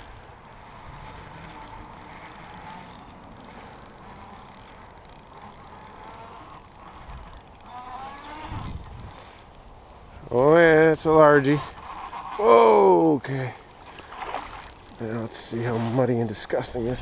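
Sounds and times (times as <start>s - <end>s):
spinning reel being cranked: 0.0s - 16.2s.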